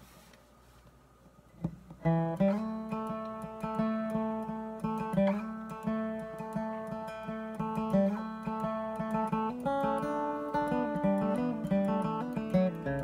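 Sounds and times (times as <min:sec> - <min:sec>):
acoustic guitar picked melody: 0:01.6 - 0:13.0.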